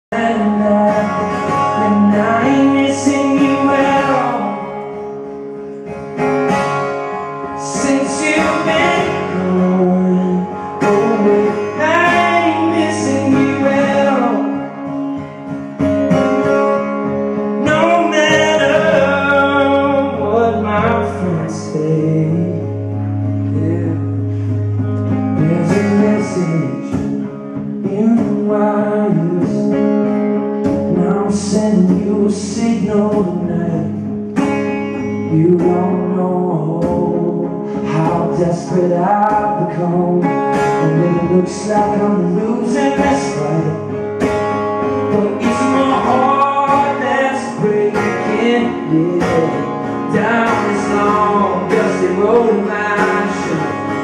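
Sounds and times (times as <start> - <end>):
man singing: 0.0 - 5.2, 7.1 - 15.4, 17.3 - 44.1, 44.9 - 54.0
acoustic guitar: 0.0 - 54.0.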